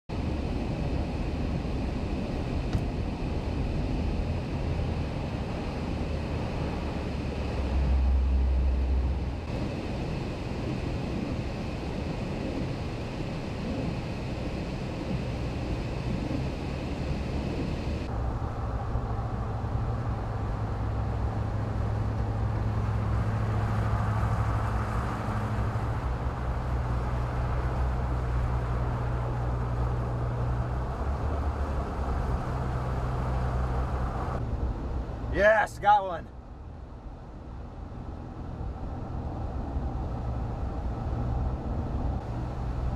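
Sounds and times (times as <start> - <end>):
low rumble: 0.1 - 35.4
engine and tyre rumble: 0.1 - 42.9.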